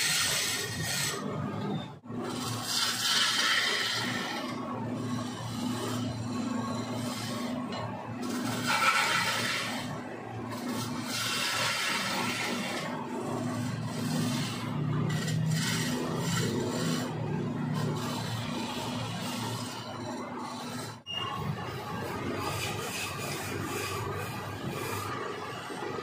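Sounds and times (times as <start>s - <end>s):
chisel scraping spinning wood: 0.0s - 26.0s
wood lathe humming: 2.3s - 25.9s.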